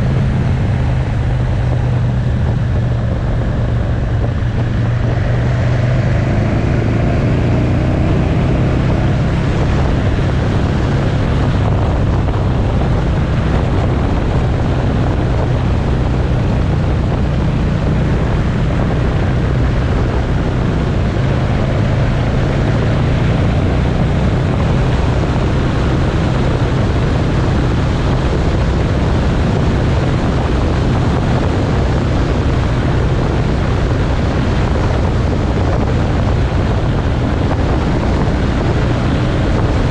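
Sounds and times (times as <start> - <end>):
motorcycle engine running: 0.0 - 39.9
wind rush over microphone: 0.0 - 39.9.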